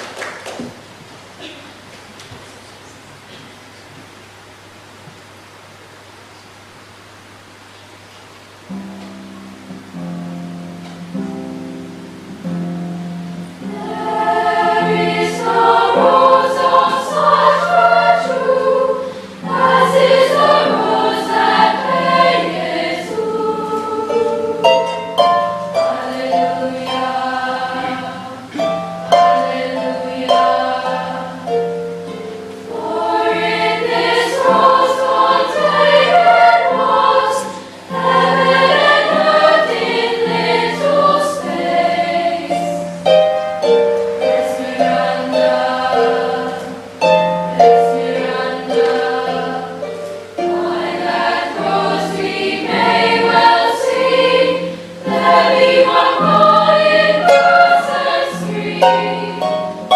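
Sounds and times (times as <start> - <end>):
harp: 8.7 - 59.9
girls' choir singing: 10.0 - 59.9.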